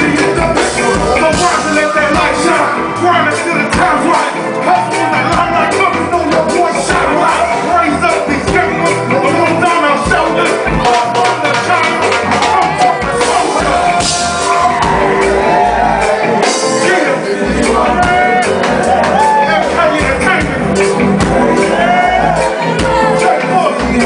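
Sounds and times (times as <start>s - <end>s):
bass and drum beat: 0.0s - 24.0s
lead vocal singing: 0.0s - 24.0s
live band music: 0.0s - 24.0s.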